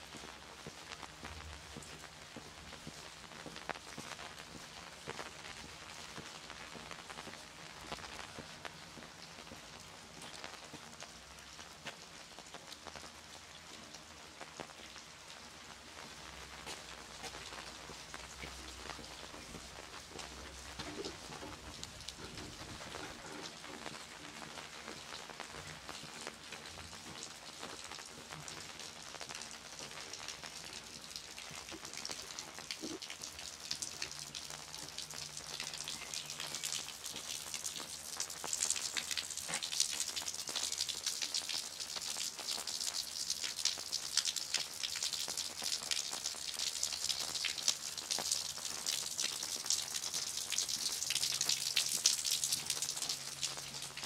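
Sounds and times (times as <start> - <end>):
rain on wet streets: 0.0 - 54.0.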